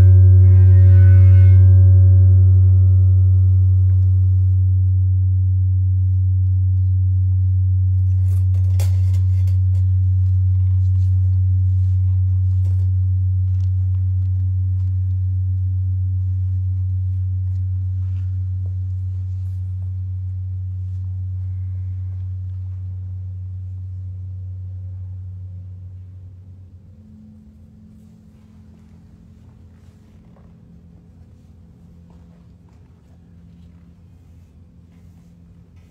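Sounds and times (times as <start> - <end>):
metal plate vibrating hum: 0.0 - 35.9.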